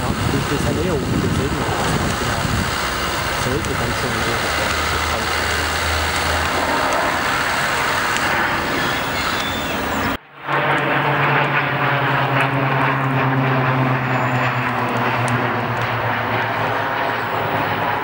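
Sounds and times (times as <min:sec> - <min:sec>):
engine running: 0:00.0 - 0:18.0
loud rushing noise: 0:00.0 - 0:18.0.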